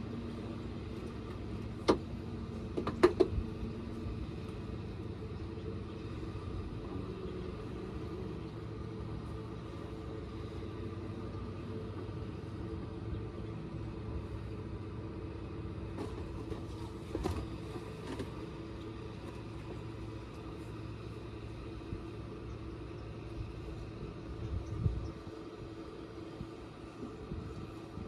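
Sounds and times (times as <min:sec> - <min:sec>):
outboard motor idling: 0:00.0 - 0:28.0.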